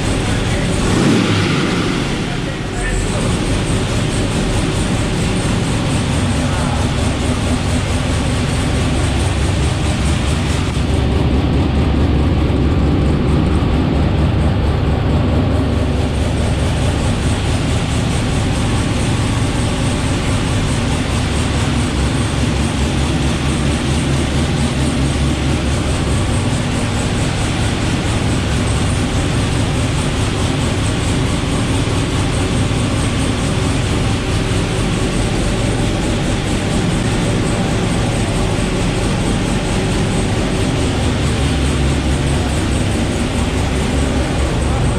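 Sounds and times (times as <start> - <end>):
drag car engine running loud: 0.0 - 44.9.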